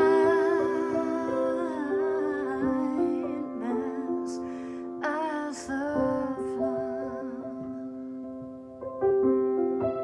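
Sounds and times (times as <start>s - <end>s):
woman singing a hymn: 0.0s - 8.2s
out-of-tune piano chords: 0.0s - 10.0s.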